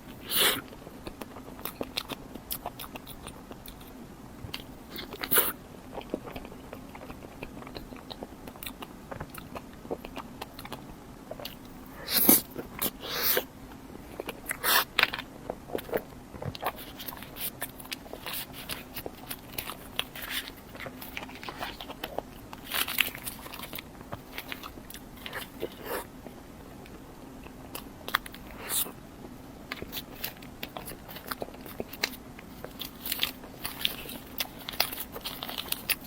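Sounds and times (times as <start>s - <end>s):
crunchy chewing: 0.0s - 36.0s.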